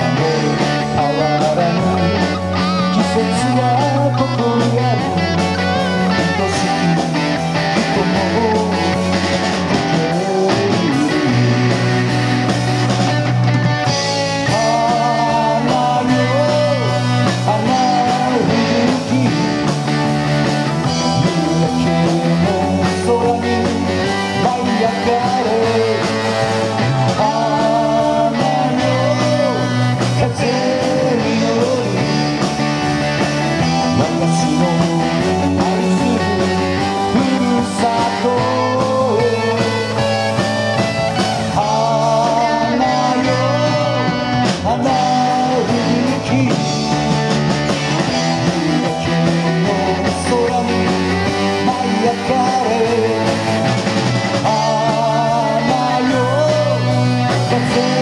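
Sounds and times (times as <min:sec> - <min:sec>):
drum kit: 0:00.0 - 0:58.0
electric bass: 0:00.0 - 0:58.0
electric guitars: 0:00.0 - 0:58.0
keyboard: 0:00.0 - 0:58.0.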